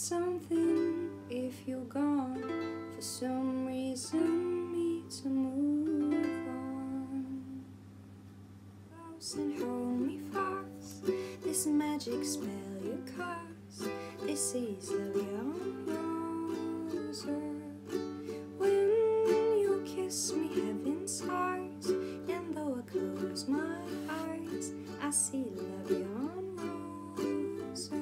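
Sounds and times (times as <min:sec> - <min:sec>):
ukulele strumming: 0:00.0 - 0:07.5, 0:09.2 - 0:28.0
woman singing: 0:00.0 - 0:07.7, 0:08.9 - 0:28.0
steady low hum: 0:00.0 - 0:28.0.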